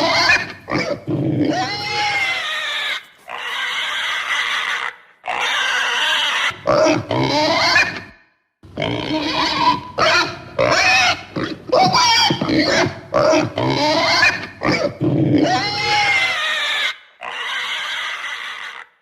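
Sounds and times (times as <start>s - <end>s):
pig calls: 0.0s - 8.2s, 8.8s - 19.0s.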